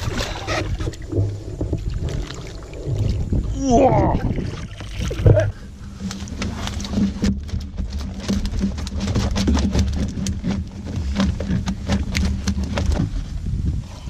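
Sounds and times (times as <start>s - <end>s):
fish flopping and slapping: 0.0s - 3.6s, 4.2s - 13.4s
water patter: 0.0s - 13.4s
steady low hum: 0.0s - 14.0s.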